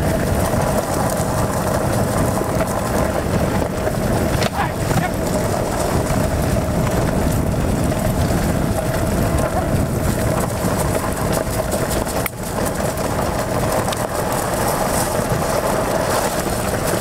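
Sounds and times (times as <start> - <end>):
cart wheels rolling on gravel: 0.0 - 17.0.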